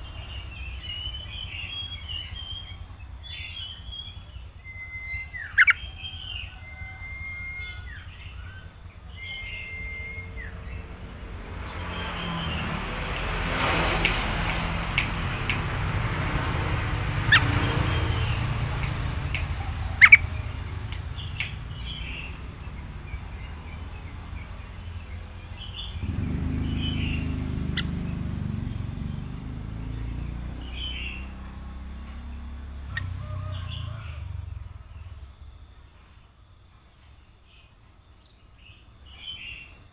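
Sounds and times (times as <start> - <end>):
bird chirps and calls: 0.0 - 35.4.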